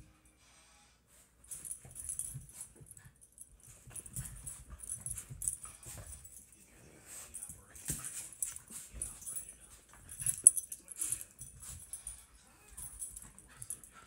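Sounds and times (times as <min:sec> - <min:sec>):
breathy dog noises: 0:01.5 - 0:14.0
dogs scuffling: 0:01.5 - 0:14.0.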